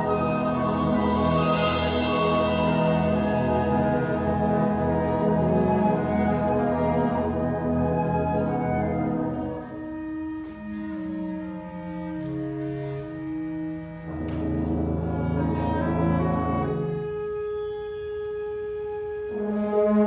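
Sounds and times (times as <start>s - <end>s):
wind ensemble playing chords: 0.0s - 20.0s.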